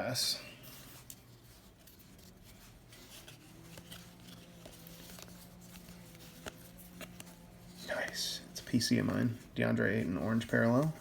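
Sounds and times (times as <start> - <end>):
trading cards sliding: 0.6 - 11.0.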